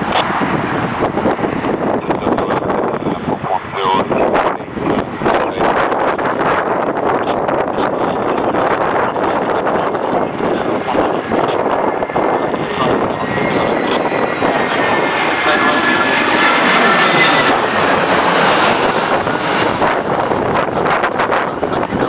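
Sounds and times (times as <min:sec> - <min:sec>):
airliner engines whining: 0:00.0 - 0:22.0
wind rushing on microphone: 0:00.0 - 0:22.0.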